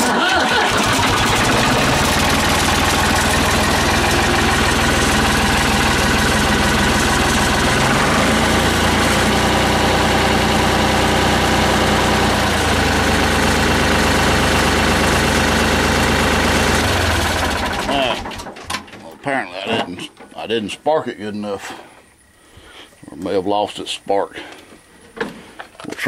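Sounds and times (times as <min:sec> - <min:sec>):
tractor engine idling: 0:00.0 - 0:21.6.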